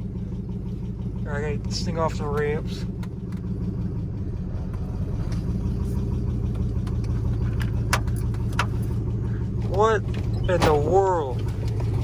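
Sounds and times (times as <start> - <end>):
engine ticking: 0.0 - 12.0
truck engine idling: 0.0 - 12.0.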